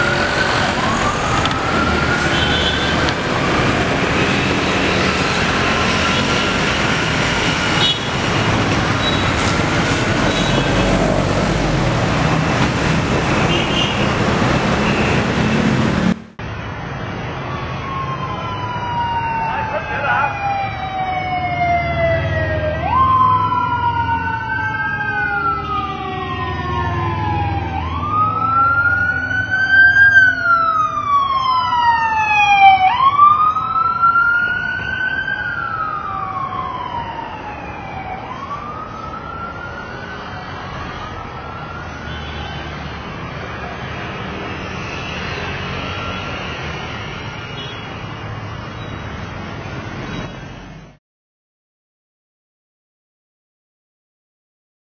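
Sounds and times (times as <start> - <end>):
police sirens wailing: 0.0 - 47.7
passing road traffic: 0.0 - 51.0.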